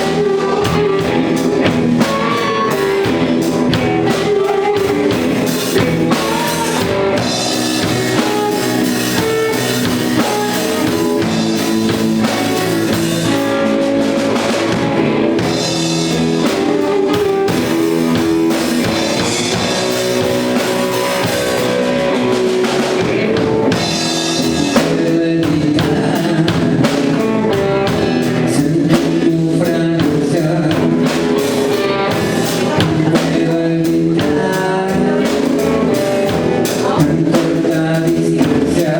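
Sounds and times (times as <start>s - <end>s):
blues band playing: 0.0s - 38.9s
person singing: 0.0s - 38.9s.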